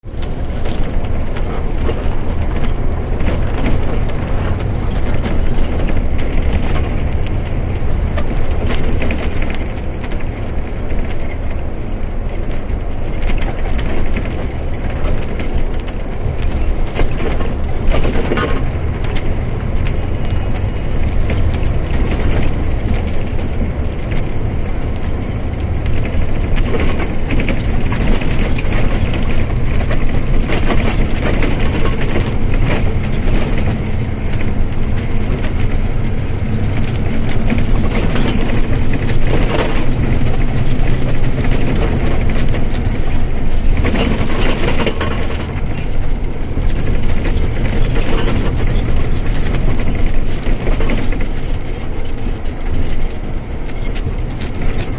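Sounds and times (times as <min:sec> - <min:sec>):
bus diesel engine rumble: 0:00.0 - 0:54.9
road and chassis noise: 0:00.0 - 0:54.9.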